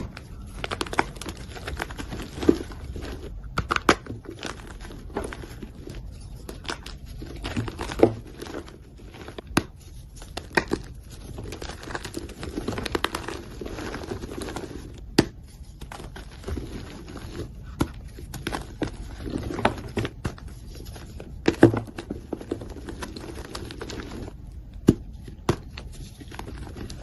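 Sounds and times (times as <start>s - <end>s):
chalk crunching and crackling: 0.0s - 24.4s.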